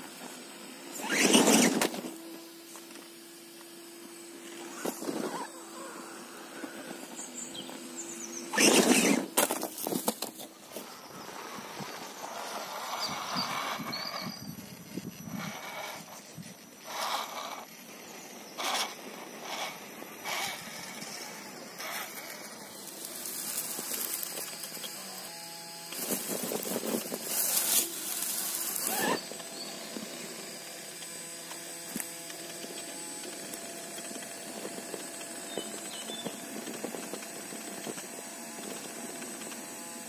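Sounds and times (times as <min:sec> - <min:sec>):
electric motor and gear whine: 0:00.0 - 0:40.0.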